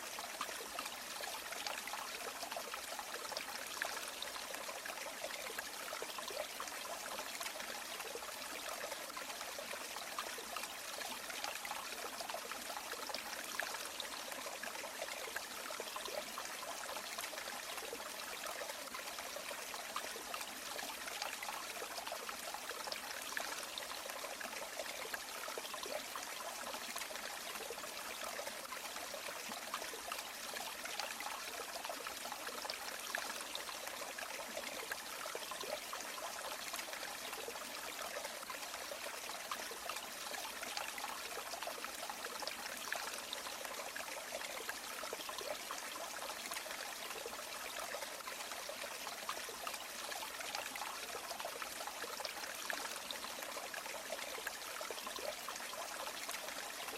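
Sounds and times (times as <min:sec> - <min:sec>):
stream babbling over stones: 0:00.0 - 0:56.9.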